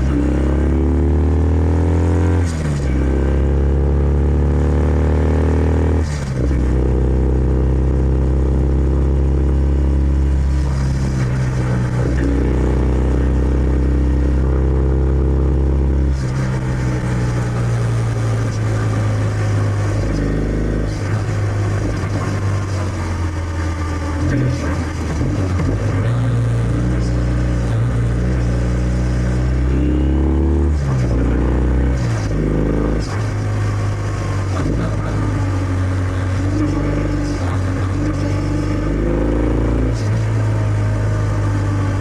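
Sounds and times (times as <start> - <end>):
motorcycle engine accelerating: 0.0 - 42.0
quick gear upshifts: 0.0 - 42.0.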